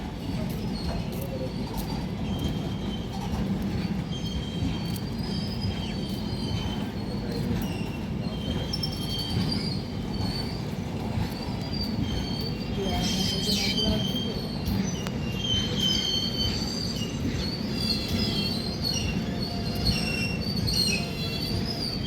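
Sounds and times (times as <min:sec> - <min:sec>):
train rumbling on rails: 0:00.0 - 0:22.0
wheel squeals: 0:00.2 - 0:22.0.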